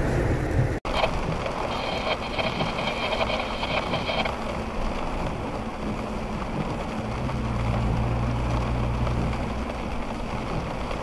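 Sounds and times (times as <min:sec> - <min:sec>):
heavy rain hiss: 0:00.9 - 0:11.0.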